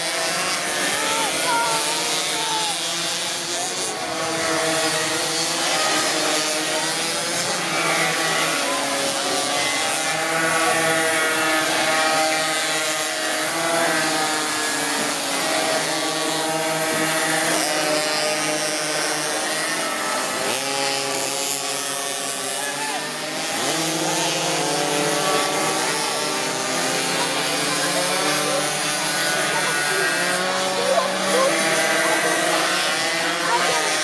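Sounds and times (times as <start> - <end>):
small two-stroke engines revving: 0.0 - 34.0.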